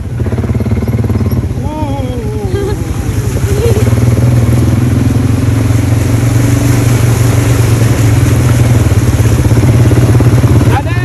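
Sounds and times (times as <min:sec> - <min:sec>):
quad engine running: 0:00.0 - 0:11.0.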